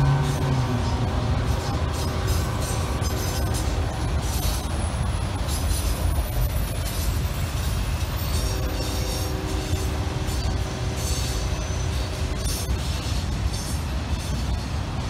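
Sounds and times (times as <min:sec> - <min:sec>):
freight cars clanking: 0:00.0 - 0:15.0
train wheels rumbling on rail: 0:00.0 - 0:15.0.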